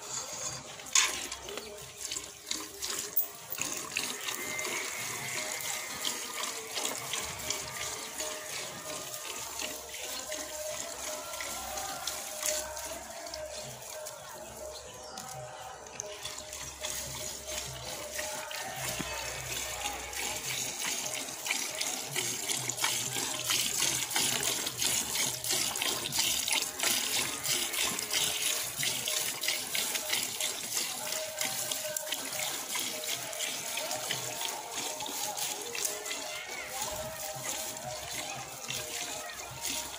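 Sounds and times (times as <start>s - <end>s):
milk squirting into steel bucket: 0.0s - 39.9s.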